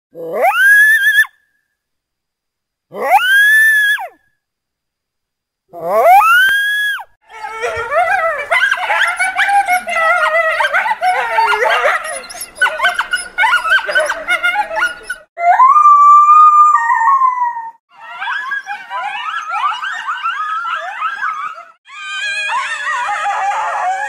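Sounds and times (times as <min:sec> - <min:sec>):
coyotes yipping and howling: 0:00.2 - 0:01.4, 0:05.8 - 0:24.0.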